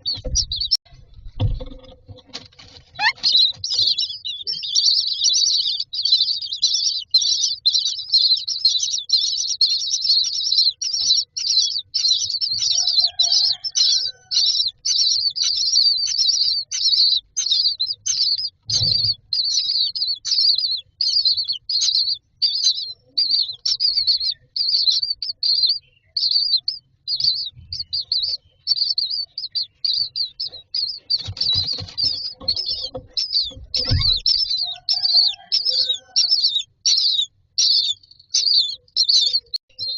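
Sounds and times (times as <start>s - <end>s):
nestlings begging calls: 2.8s - 39.9s.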